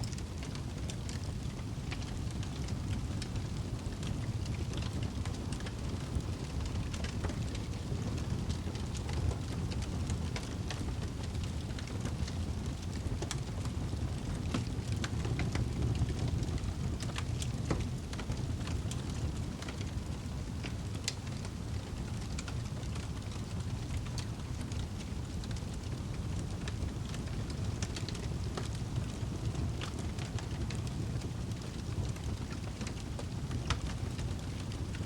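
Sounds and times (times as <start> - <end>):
fire crackling and popping: 0.0 - 35.0
fire rumbling in fireplace: 0.0 - 35.0.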